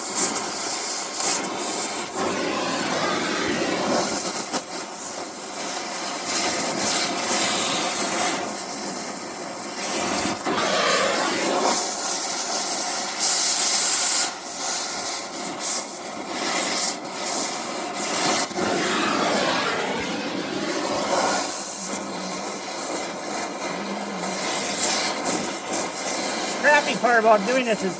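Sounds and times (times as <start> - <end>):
cutting torch hissing: 0.0 - 27.9.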